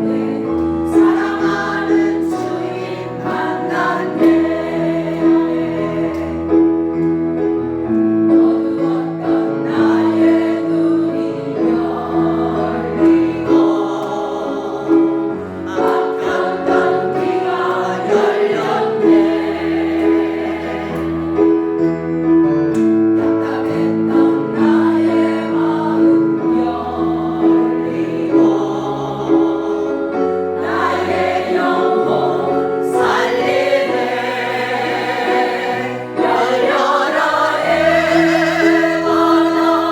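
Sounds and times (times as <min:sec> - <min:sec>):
choir singing praise song: 0:00.0 - 0:21.7, 0:23.1 - 0:39.9
sustained accompaniment: 0:00.0 - 0:39.9.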